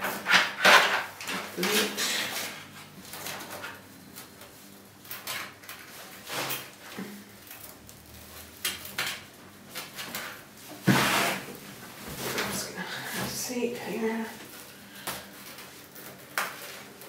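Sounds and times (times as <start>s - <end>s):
cables rustling and scraping: 0.0s - 17.0s.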